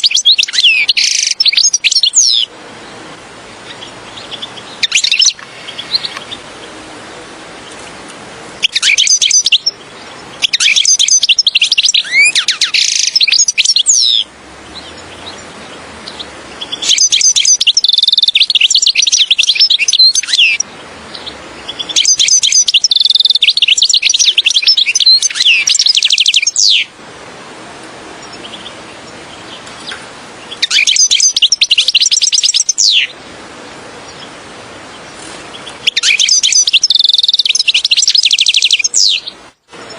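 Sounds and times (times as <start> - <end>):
bird twittering and trilling: 0.0 - 3.0, 3.6 - 6.8, 8.6 - 26.9, 28.2 - 33.2, 34.0 - 39.9
faint steady hiss: 0.0 - 39.9.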